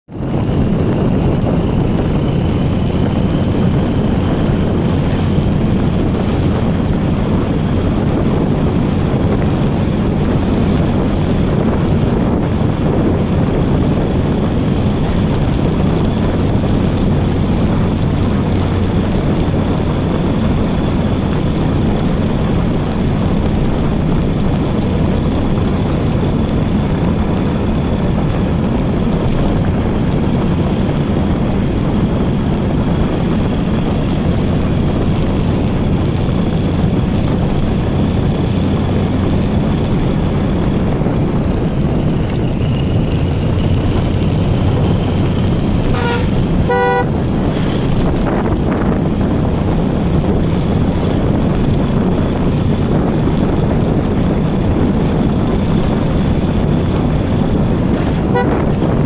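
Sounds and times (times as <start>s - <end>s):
motorcycle engine and road rumble: 0.0s - 59.0s
wind rushing over microphone: 0.0s - 59.0s.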